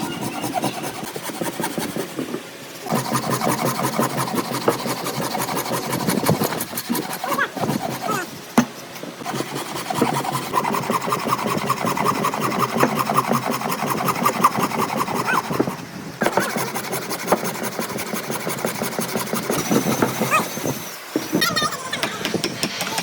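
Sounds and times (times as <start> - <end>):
hand tool scraping on wood: 0.0 - 20.9.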